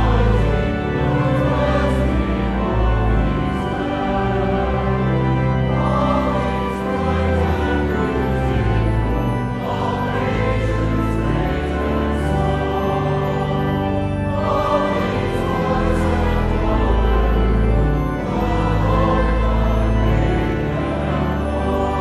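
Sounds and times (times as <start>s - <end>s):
choir singing held chords: 0.0s - 22.0s.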